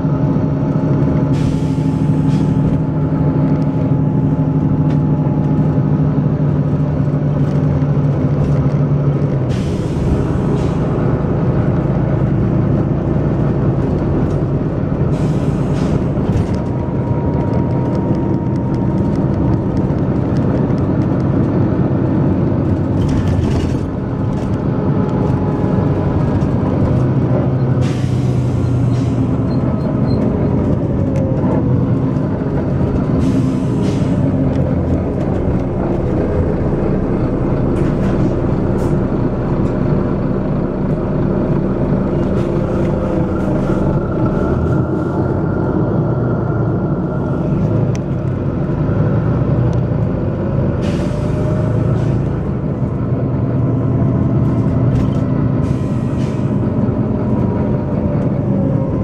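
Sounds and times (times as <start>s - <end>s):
diesel bus engine running hard: 0.0s - 59.0s.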